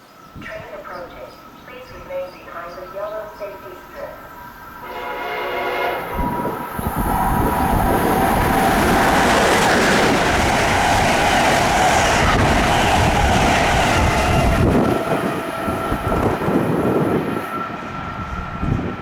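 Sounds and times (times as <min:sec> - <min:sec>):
train passing on tracks: 0:00.0 - 0:19.0.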